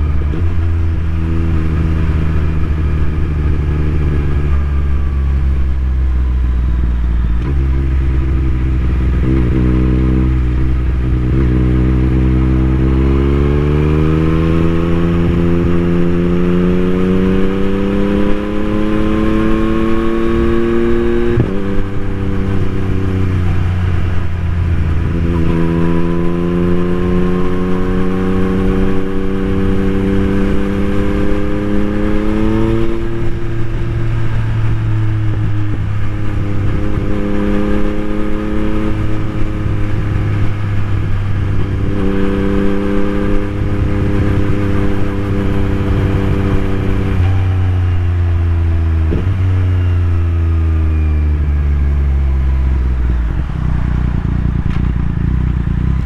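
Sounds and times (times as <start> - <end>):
motorcycle engine riding in traffic: 0.0 - 56.0.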